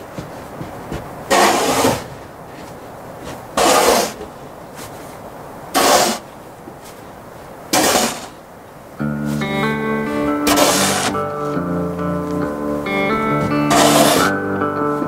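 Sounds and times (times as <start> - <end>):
snow shovel scraping wooden deck: 0.0 - 7.1, 7.7 - 8.4, 9.1 - 15.0.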